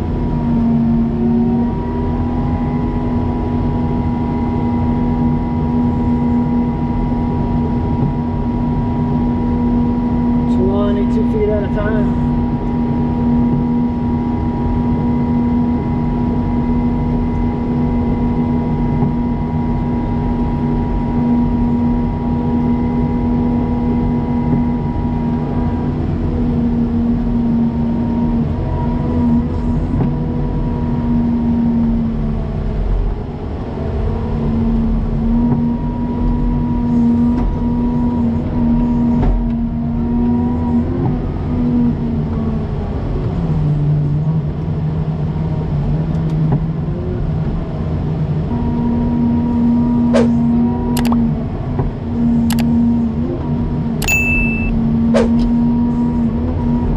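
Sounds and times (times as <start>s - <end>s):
engine whine shifting pitch: 0.0s - 44.0s, 48.5s - 56.9s
snow plow engine drone: 0.0s - 56.9s.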